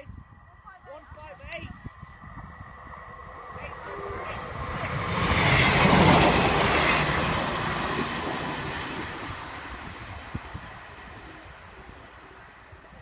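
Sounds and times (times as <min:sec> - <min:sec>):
diesel train passing: 0:00.2 - 0:13.0.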